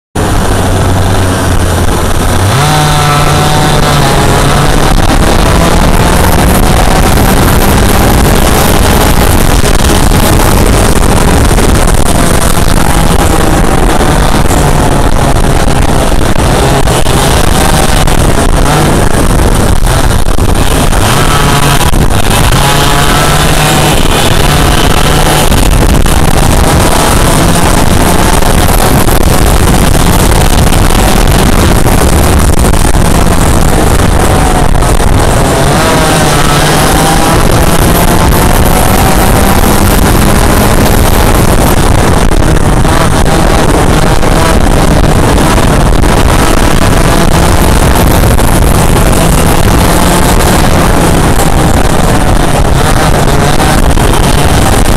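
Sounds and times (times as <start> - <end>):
other kart engines nearby: 0.0 - 54.9
kart engine revving: 0.2 - 54.9.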